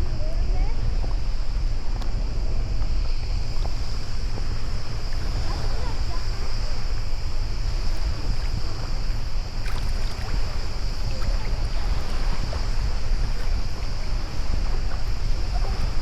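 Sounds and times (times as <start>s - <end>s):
steady high-pitched hiss: 0.0s - 16.0s
water lapping around paddleboard: 0.0s - 16.0s
wind buffeting microphone: 0.0s - 16.0s.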